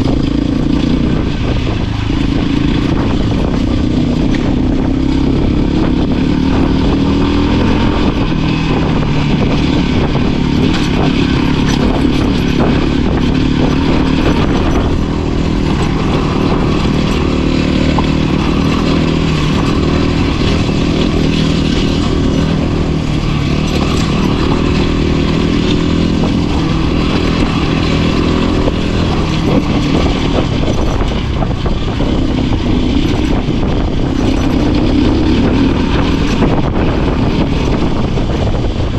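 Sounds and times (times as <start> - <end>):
motorcycle engine running: 0.0 - 38.9
rattles and ticks of stones: 0.0 - 38.9.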